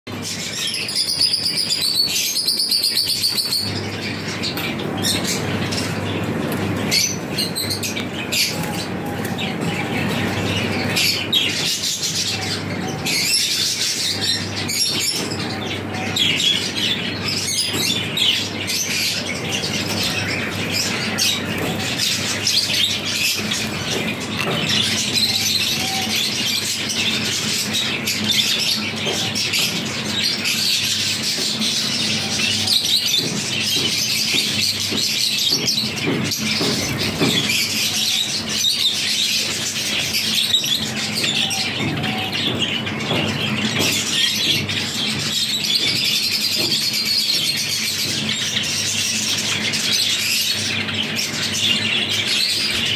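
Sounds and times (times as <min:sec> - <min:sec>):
finches chirping: 0:00.2 - 0:52.9.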